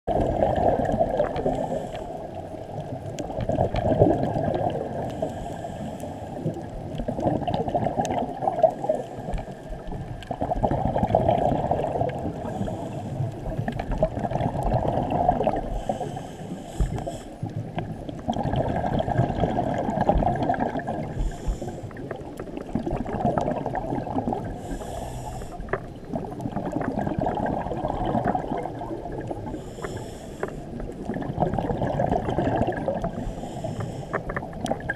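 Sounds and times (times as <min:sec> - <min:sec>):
underwater rumble: 0:00.0 - 0:34.9
diver exhaling bubbles: 0:00.1 - 0:09.5, 0:10.2 - 0:34.9.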